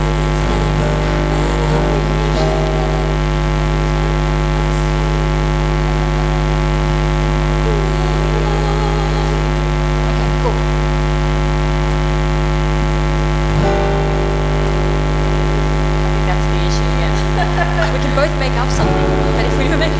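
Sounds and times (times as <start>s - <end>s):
buzzy electrical mains hum: 0.0s - 19.9s.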